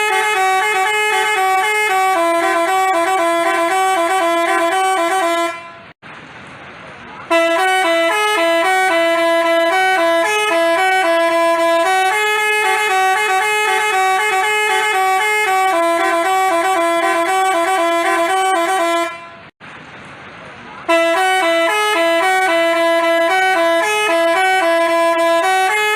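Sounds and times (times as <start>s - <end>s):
multi-tone horn playing a tune: 0.0s - 6.0s, 7.3s - 19.5s, 20.9s - 25.9s.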